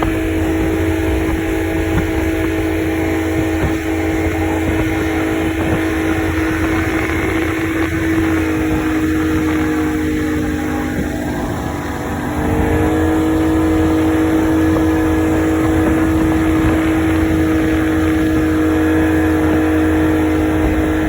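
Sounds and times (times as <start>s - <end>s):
motorboat engine running: 0.0s - 21.0s
wind and water rushing: 0.0s - 21.0s.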